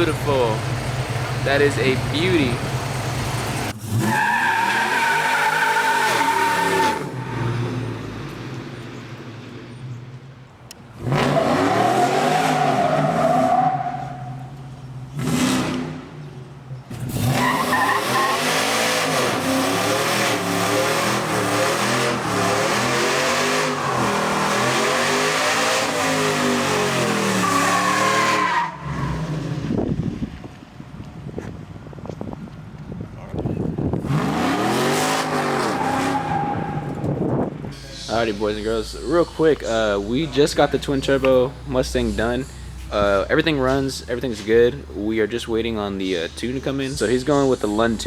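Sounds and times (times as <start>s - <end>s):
truck engines revving: 0.0s - 30.3s, 32.2s - 48.0s.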